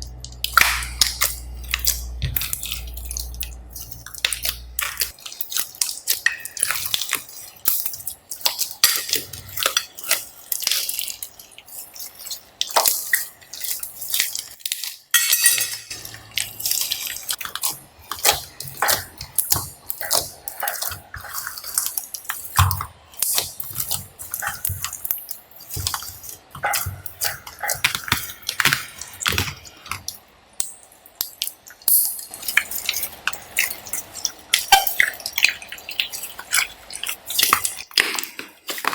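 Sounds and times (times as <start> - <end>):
slime squelching: 0.0 - 38.9.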